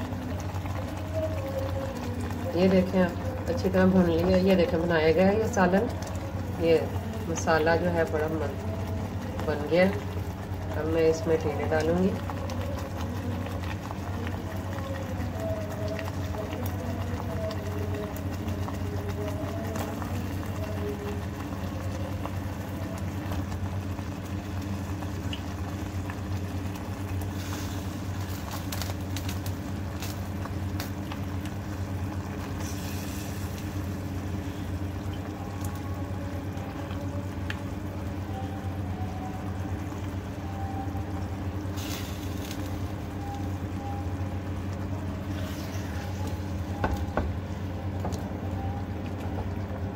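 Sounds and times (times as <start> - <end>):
sauce simmering in a pot: 0.0 - 49.9
steady low hum: 0.0 - 49.9.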